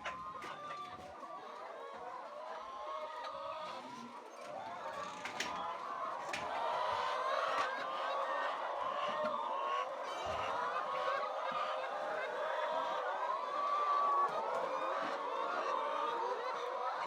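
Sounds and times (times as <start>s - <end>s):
poultry clucking and honking: 0.0s - 17.0s.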